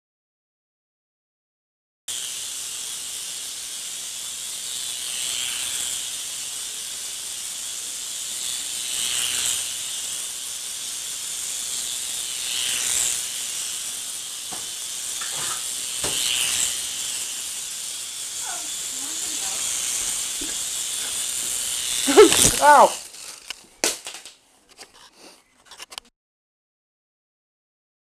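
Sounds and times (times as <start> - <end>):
toy helicopter rotors whirring: 2.1 - 26.1.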